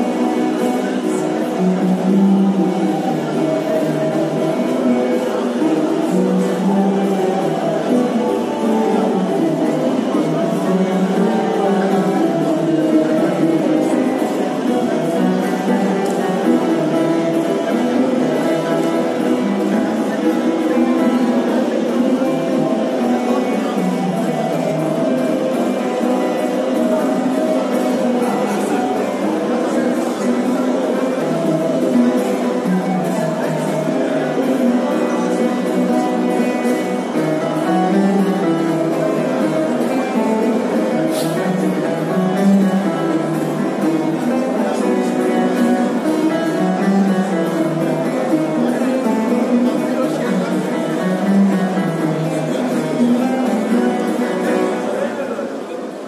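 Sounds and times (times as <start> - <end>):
live ensemble music: 0.0 - 56.0
plucked string instrument: 0.0 - 56.0.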